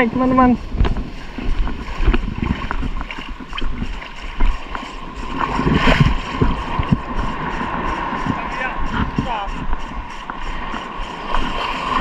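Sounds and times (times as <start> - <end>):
surf splashing around legs: 0.0 - 12.0.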